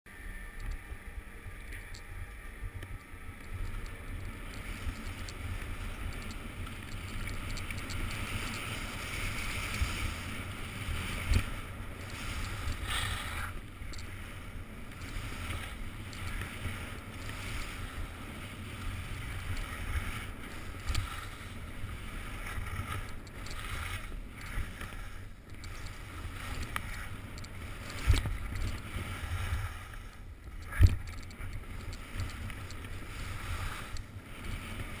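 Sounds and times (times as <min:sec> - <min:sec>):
skis carving over snow: 0:00.2 - 0:35.0
wind rumbling on microphone: 0:00.2 - 0:35.0.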